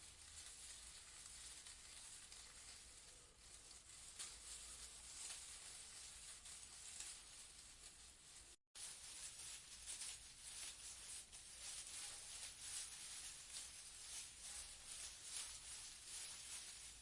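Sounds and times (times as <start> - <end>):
leaves rustling in a breeze: 0.0 - 17.0.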